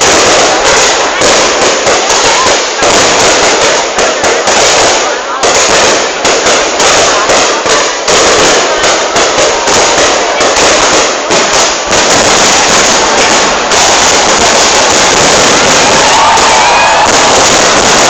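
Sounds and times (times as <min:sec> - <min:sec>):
fireworks bangs and crackle: 0:00.0 - 0:18.0.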